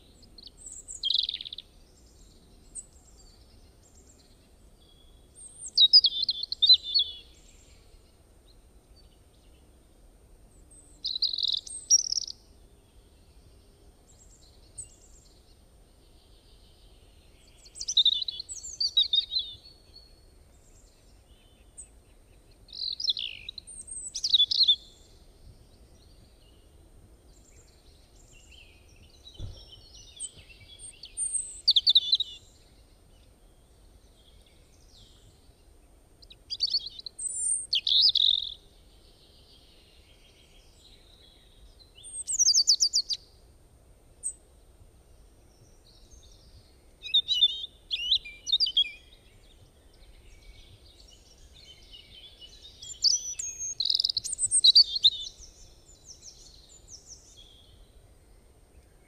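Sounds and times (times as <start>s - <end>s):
songbirds twittering: 0.0s - 43.4s, 44.2s - 59.0s.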